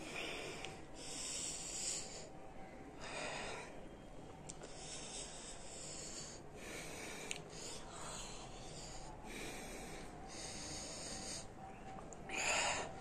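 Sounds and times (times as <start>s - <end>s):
man breathing heavily: 0.0s - 4.0s, 4.6s - 13.0s.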